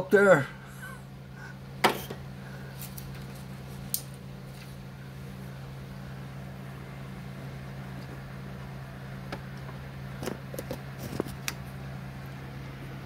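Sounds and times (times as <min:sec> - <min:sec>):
low hum: 0:00.5 - 0:13.0.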